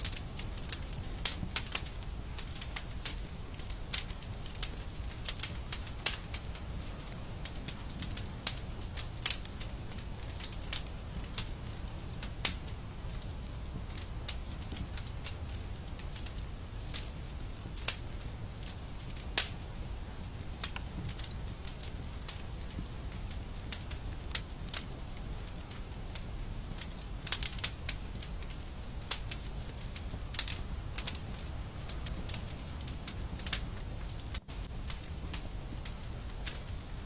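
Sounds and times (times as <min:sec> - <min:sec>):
steady low rumble: 0:00.0 - 0:37.0
wood fire crackling: 0:00.0 - 0:37.0.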